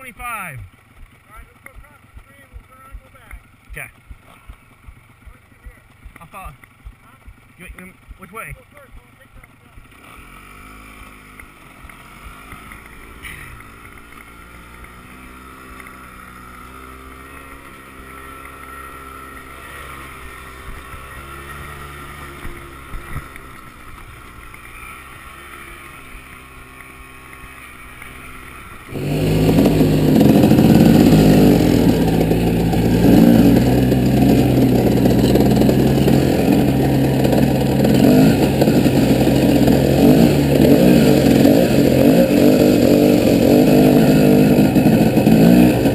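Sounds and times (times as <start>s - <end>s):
off-road vehicle engine running: 0.0s - 45.9s.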